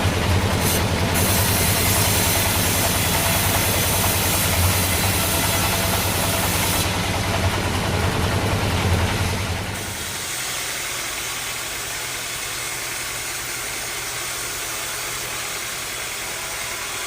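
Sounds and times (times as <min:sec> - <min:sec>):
bandsaw sawmill humming and hissing: 0:00.0 - 0:17.0.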